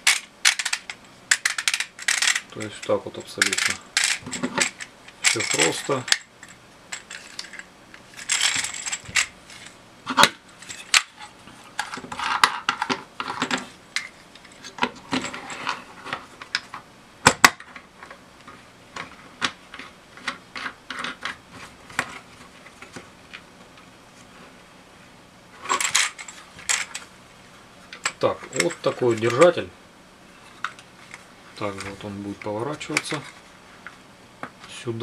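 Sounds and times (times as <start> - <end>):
plastic parts clicking and rattling: 0.0 - 23.4, 25.6 - 27.1, 27.9 - 29.6, 30.4 - 33.4.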